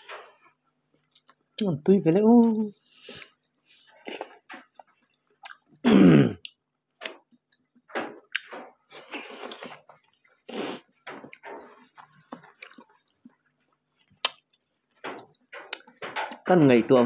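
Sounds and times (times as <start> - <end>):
people chewing and lip smacking: 0.0 - 1.6, 3.0 - 5.8, 6.4 - 16.5.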